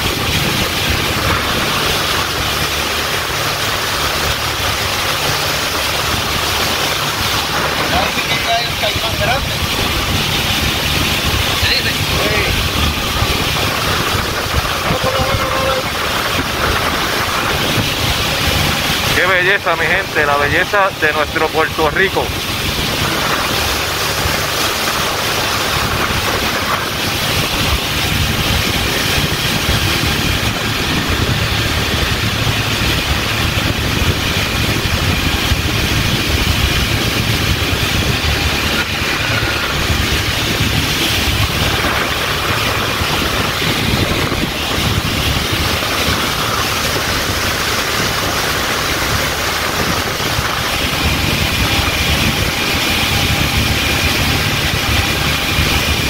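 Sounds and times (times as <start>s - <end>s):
boat motor running: 0.0s - 56.0s
water rushing past: 0.0s - 56.0s
wind rushing: 0.0s - 56.0s.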